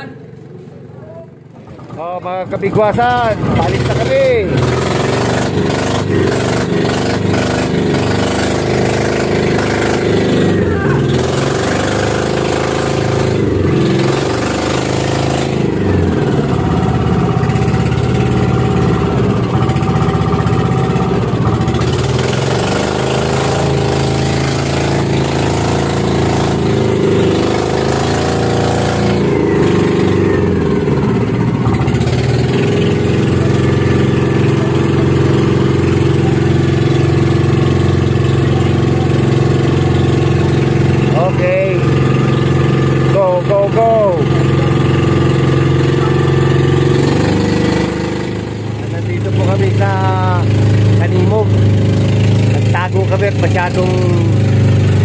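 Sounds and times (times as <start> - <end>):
boat diesel engine running: 0.0 - 55.0.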